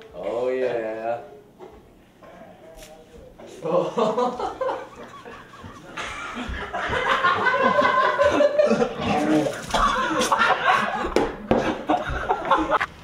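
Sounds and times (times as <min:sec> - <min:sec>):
people laughing and chattering: 0:02.2 - 0:12.9.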